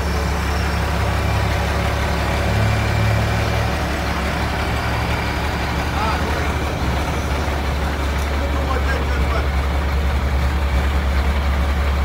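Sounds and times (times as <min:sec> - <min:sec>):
diesel engine running: 0:00.0 - 0:12.0
hydraulic crane operating: 0:00.0 - 0:12.0.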